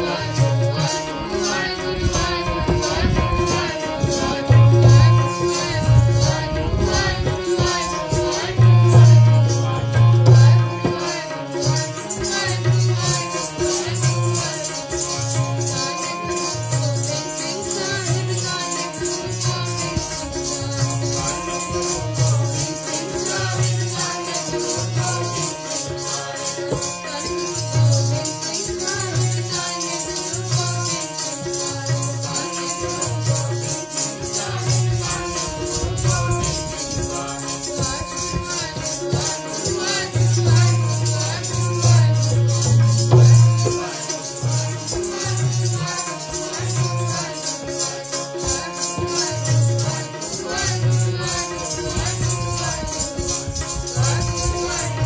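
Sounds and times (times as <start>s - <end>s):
harmoniums playing chords: 0.0s - 55.0s
jingling percussion: 0.0s - 55.0s.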